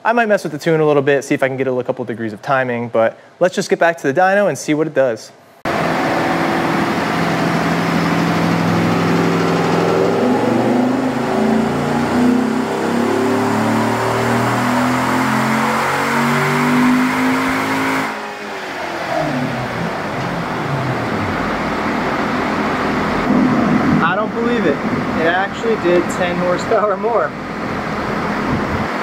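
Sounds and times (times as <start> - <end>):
car engine revving on dyno: 5.7 - 29.0.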